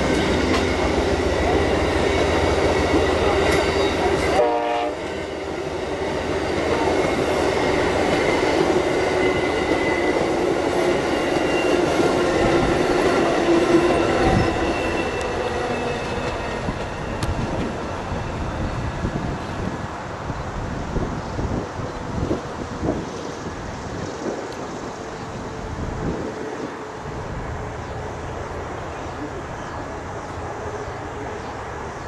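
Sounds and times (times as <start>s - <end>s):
train coaches rolling on rails: 0.0s - 32.0s.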